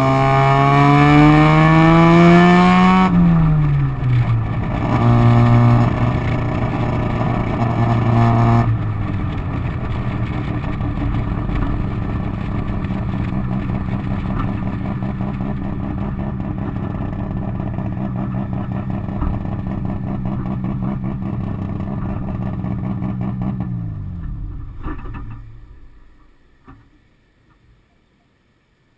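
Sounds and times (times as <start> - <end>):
rotary engine running loud: 0.0 - 24.0.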